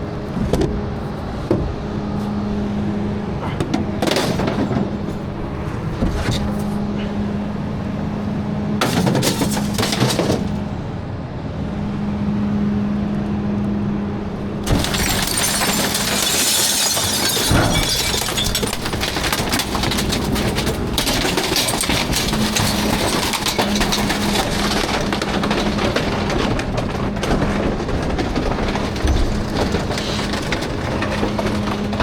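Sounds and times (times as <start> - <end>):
refuse crunching and clattering: 0.0 - 11.0, 14.2 - 32.0
garbage truck humming: 0.0 - 32.0.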